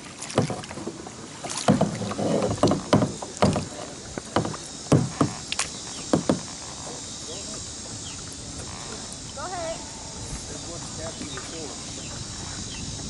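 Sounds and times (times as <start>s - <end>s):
kayak paddle splashing: 0.0s - 13.0s.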